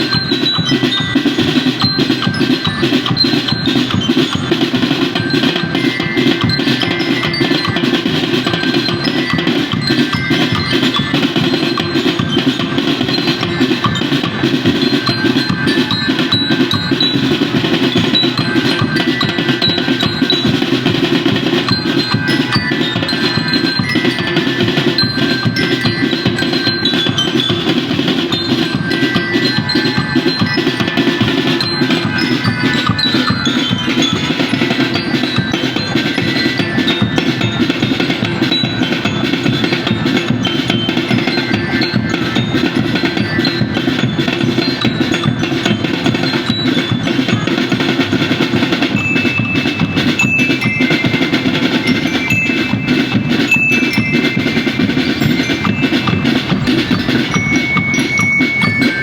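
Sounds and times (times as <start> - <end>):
bell-like mallet tones: 0.0 - 59.0
music with fast percussion: 0.0 - 59.0.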